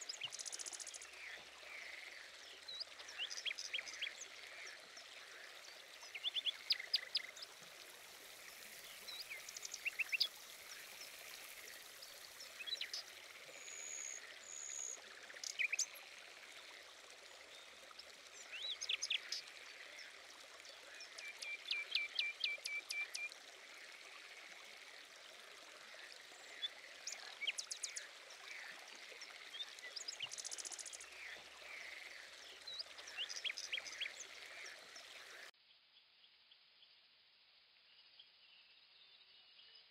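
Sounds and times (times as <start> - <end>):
small birds chirping: 0.0 - 23.8, 25.9 - 35.5
running water: 0.0 - 35.5.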